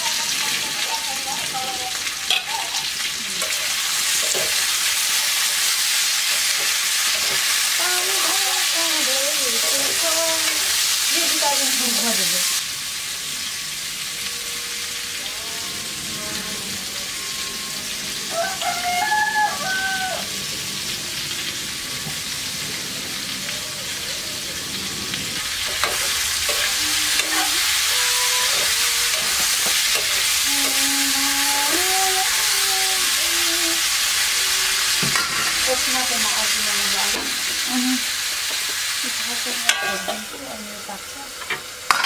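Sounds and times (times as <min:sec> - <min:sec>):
vegetables sizzling in hot oil: 0:00.0 - 0:42.0.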